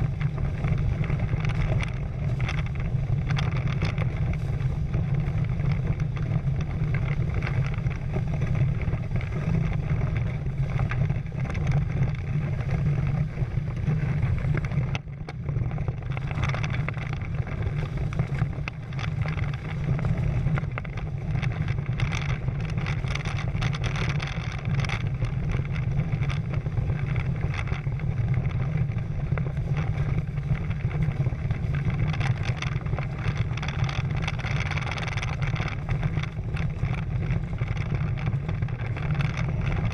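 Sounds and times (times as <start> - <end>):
water splashing along boat hulls: 0.0 - 39.9
wind buffeting microphone: 0.0 - 39.9.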